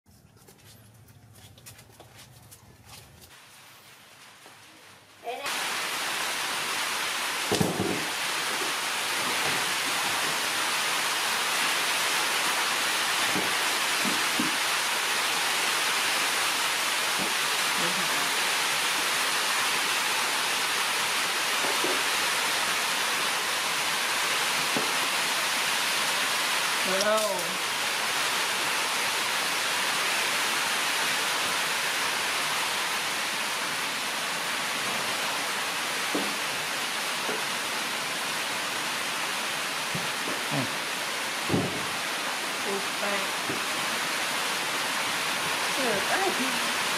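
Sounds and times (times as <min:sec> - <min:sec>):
steady rushing hiss: 0:03.3 - 0:46.9.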